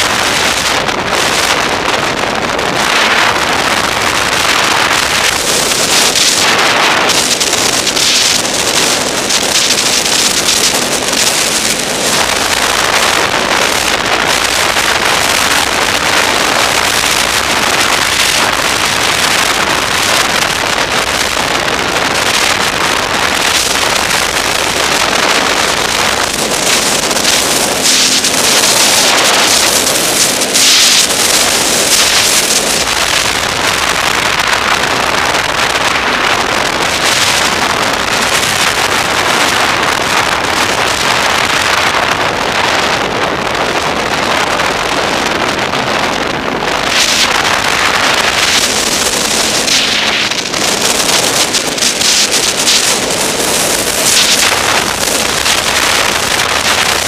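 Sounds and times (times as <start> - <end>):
snowmobile engine drone: 0.0 - 57.0
wind rushing over microphone: 0.0 - 57.0.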